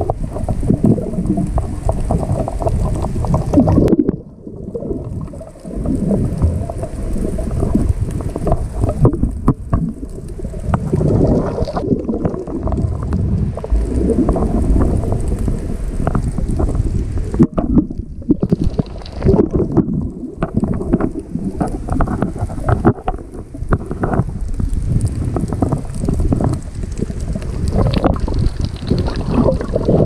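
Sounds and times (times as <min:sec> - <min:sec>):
underwater rushing and gurgling water: 0:00.0 - 0:30.0.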